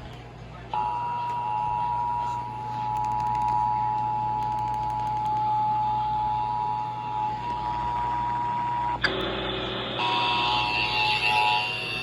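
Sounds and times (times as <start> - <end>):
two-tone alert alarm: 0.8 - 12.0.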